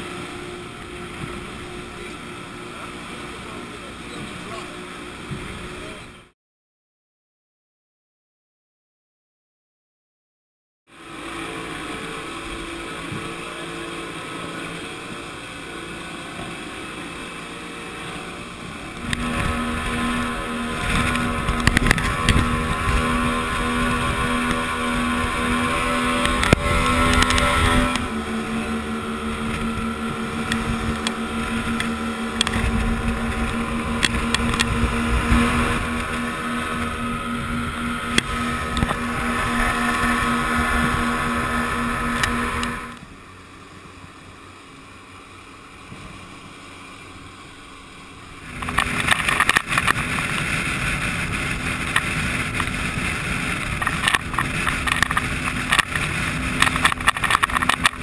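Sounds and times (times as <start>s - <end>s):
rushing water noise: 0.0s - 6.3s, 10.9s - 58.0s
outboard motor drone: 0.0s - 6.4s, 10.9s - 58.0s.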